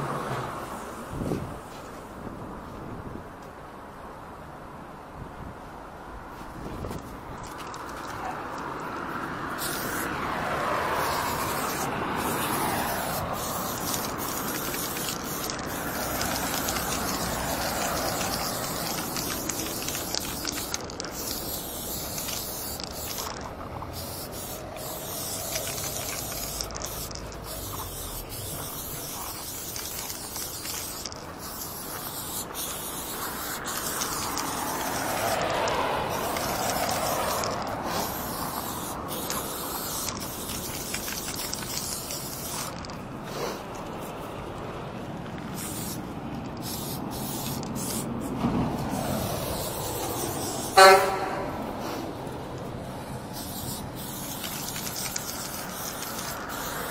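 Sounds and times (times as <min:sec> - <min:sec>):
spray paint can hissing: 0:06.9 - 0:44.6, 0:45.2 - 0:56.9.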